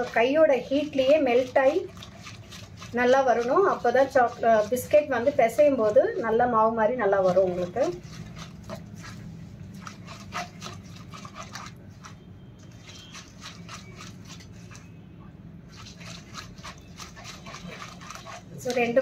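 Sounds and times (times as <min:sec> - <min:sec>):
hand squelching fat in a bowl: 0:00.0 - 0:19.0.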